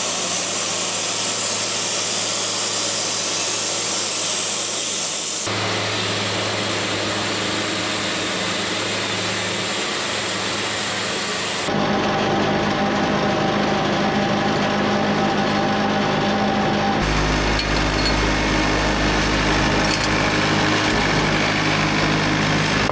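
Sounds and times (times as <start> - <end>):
sawmill engine and blade: 0.0 - 22.9.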